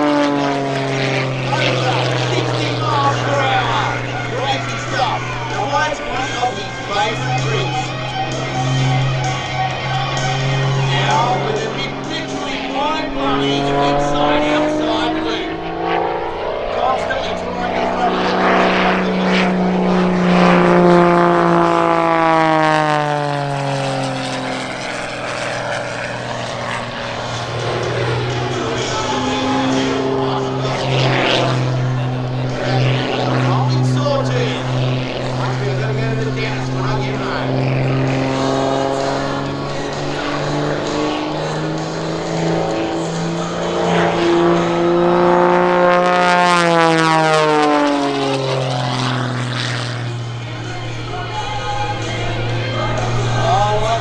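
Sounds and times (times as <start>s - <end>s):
propeller plane engine drone: 0.0s - 54.0s.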